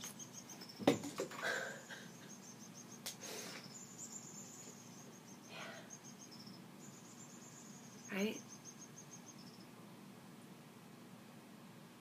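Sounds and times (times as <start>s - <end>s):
faint high-pitched pulsed chirping: 0.0s - 9.8s.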